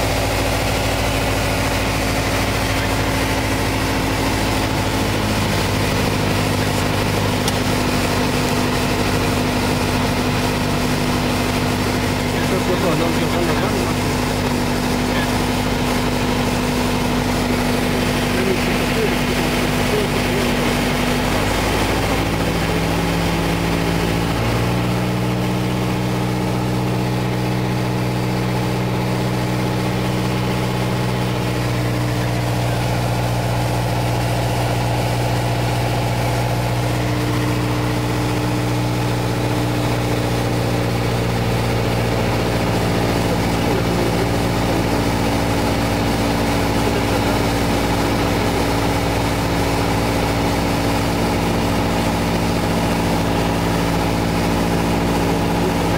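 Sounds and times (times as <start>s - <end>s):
light aircraft engine droning: 0.0s - 55.9s.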